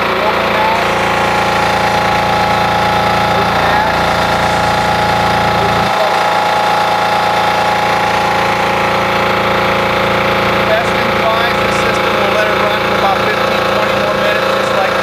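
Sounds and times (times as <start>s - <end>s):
small diesel engine knocking: 0.0s - 15.0s.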